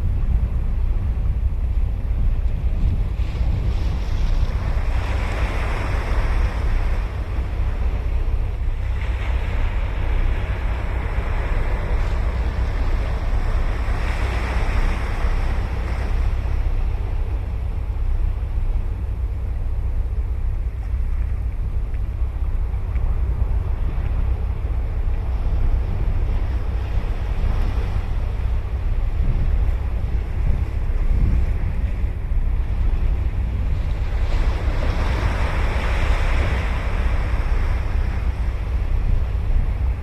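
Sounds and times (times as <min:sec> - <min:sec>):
ocean waves breaking: 0:00.0 - 0:40.0
wind on microphone: 0:00.0 - 0:40.0.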